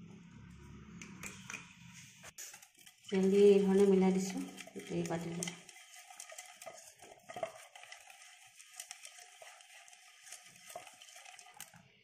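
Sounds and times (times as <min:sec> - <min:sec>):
soft brushing in metal bowl: 0:02.0 - 0:12.0.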